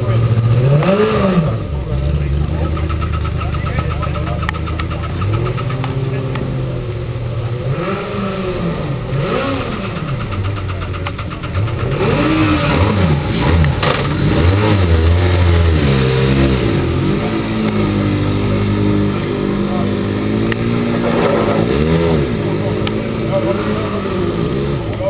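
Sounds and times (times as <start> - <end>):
racing car engine revving: 0.0 - 25.0.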